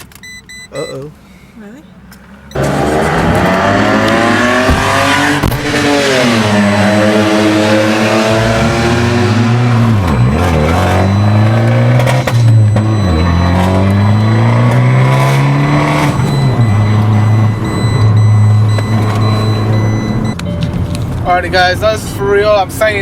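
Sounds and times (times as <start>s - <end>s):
car engine running loudly: 2.5s - 21.2s.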